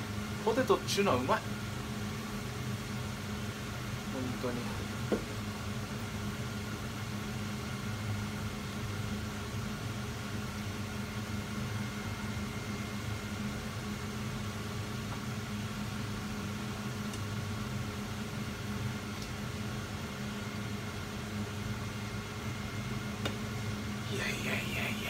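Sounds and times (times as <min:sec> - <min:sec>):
appliance motor and fan humming: 0:00.0 - 0:25.0.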